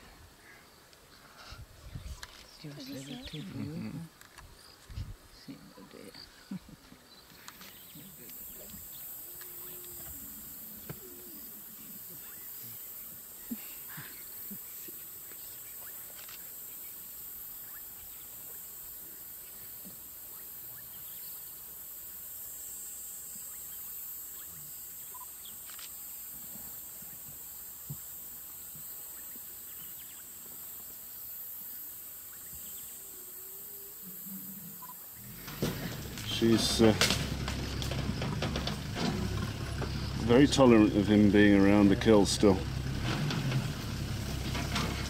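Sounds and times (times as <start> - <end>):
insect chorus: 0.0 - 45.0.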